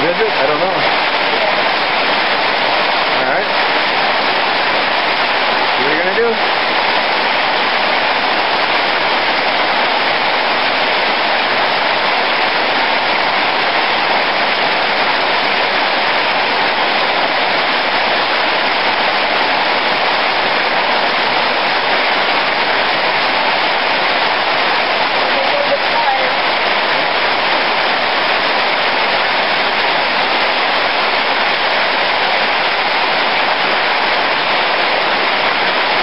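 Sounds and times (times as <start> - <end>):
heavy rain: 0.0 - 36.0.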